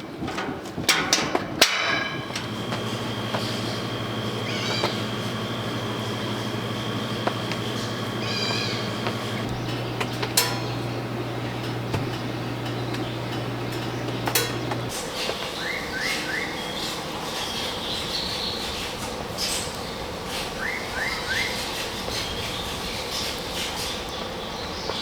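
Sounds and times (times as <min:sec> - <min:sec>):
steady low hum: 0:00.0 - 0:20.7
birds chirping: 0:01.9 - 0:25.0.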